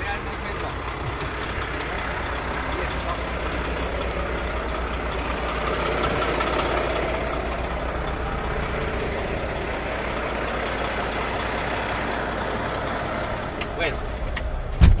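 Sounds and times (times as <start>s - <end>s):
diesel engine low rumble: 0.0s - 15.0s.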